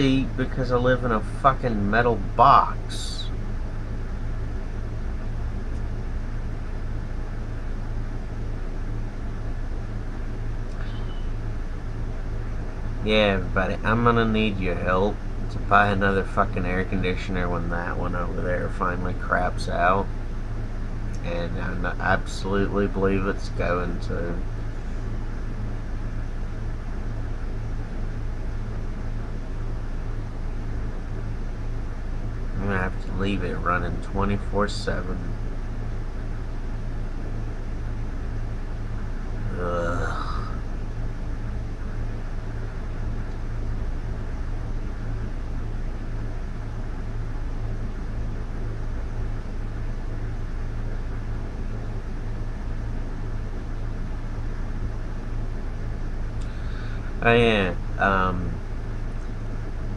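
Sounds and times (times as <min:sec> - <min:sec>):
air conditioner running: 0:00.0 - 0:59.9.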